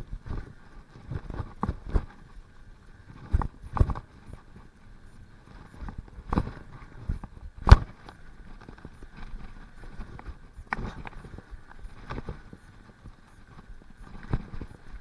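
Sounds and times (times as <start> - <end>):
bike rattling over dirt trail: 0.0 - 15.0.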